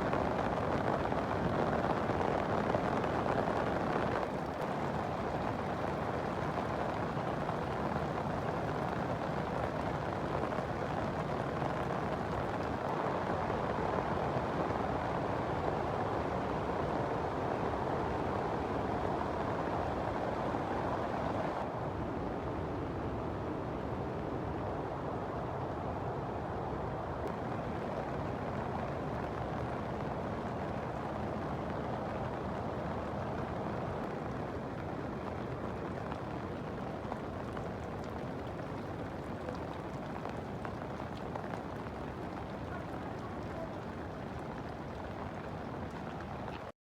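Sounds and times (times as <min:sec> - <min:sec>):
heavy rain falling: 0:00.0 - 0:21.6, 0:27.2 - 0:46.7.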